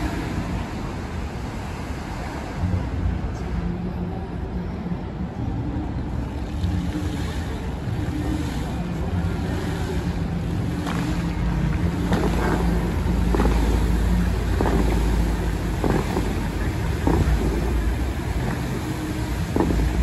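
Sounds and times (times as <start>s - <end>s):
water jets whooshing: 0.0s - 4.4s, 5.6s - 20.0s
fountain water rushing and spraying: 0.0s - 20.0s.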